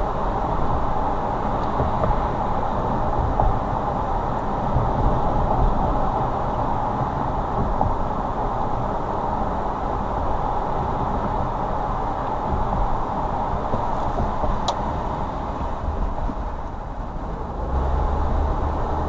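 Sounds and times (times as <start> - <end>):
car road noise: 0.0 - 19.0.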